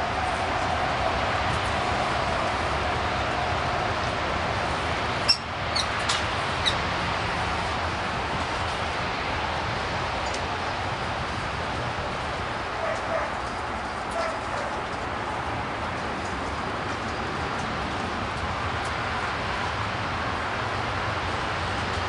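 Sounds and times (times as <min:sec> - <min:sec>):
steady outdoor noise: 0:00.0 - 0:22.0.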